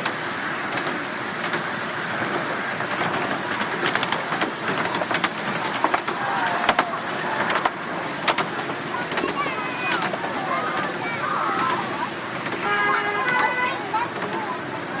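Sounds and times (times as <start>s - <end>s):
miniature train rumbling on track: 0.0s - 15.0s
wheels clacking on rails: 0.0s - 15.0s.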